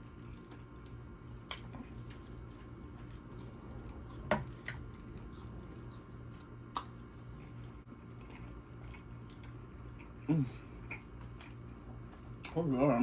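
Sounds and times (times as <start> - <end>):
wet chewing of steak: 0.0 - 12.6.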